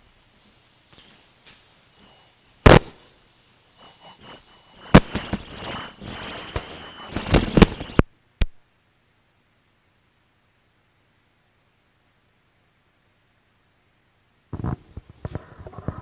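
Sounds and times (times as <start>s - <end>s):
faint high whine: 1.0s - 14.5s.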